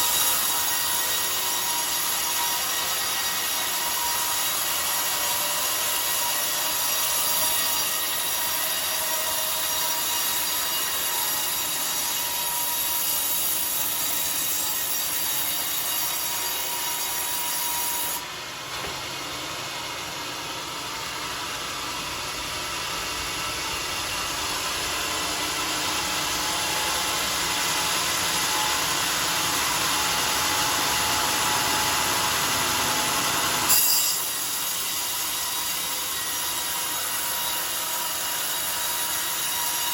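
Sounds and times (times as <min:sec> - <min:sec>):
circular saw cutting log: 0:00.0 - 0:39.9.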